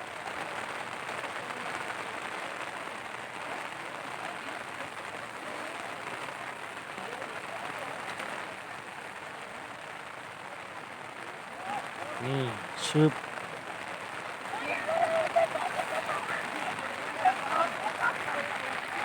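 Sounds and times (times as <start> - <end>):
faint voices of people: 0.0 - 19.0
rain falling: 0.0 - 19.0.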